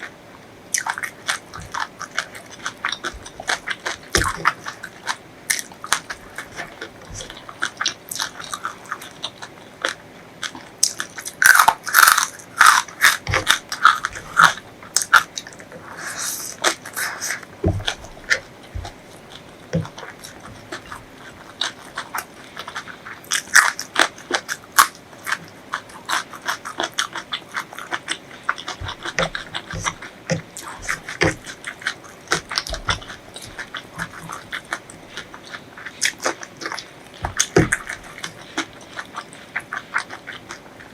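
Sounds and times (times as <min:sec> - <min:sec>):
person crunching and chewing food: 0:00.0 - 0:40.9.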